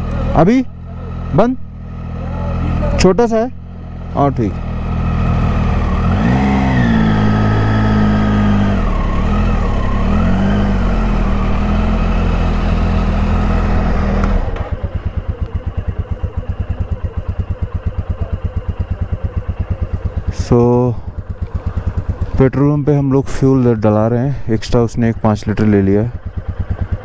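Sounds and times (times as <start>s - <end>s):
motorcycle engine idling: 0.0s - 27.0s
motorcycle engine revving: 0.0s - 27.0s.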